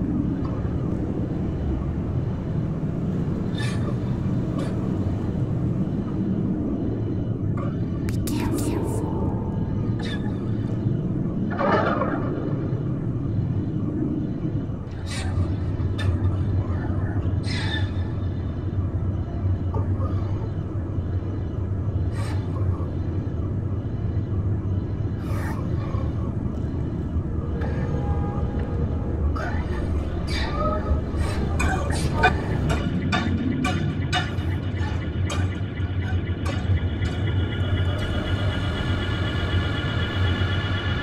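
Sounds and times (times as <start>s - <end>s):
low rumbling drone: 0.0s - 41.0s.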